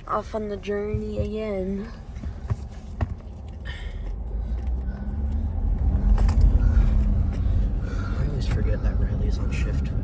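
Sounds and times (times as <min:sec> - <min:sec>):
motor vehicle engine rumble: 0:00.0 - 0:10.0.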